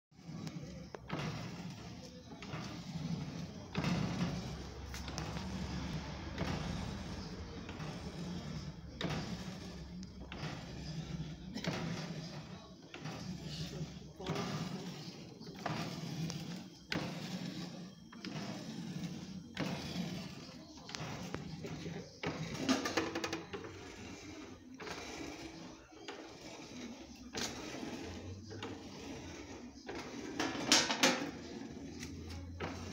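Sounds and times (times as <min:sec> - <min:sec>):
coating machine humming and whirring: 0:00.2 - 0:32.9.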